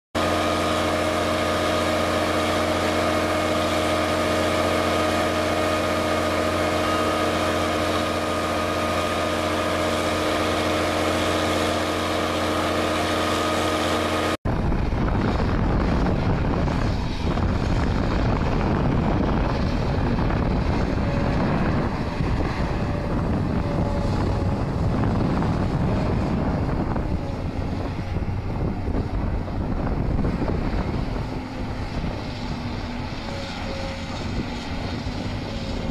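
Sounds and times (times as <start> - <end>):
engine and pump drone: 0.2 - 35.9
excavator rumble: 0.2 - 35.9
wind buffeting microphone: 0.2 - 35.9.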